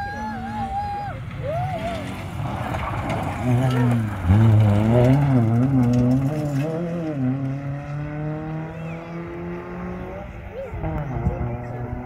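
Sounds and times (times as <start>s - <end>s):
rally car engine revving: 1.2s - 12.0s.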